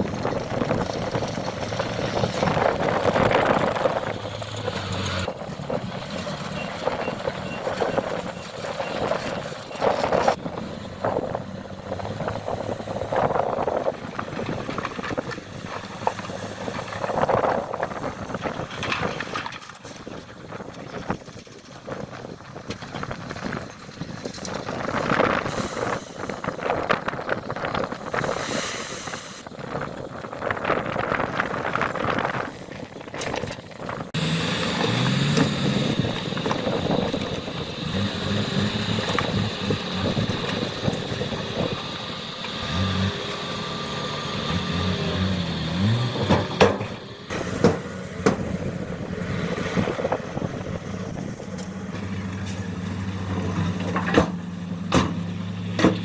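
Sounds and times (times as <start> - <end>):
heavy diesel engines: 0.0 - 56.0.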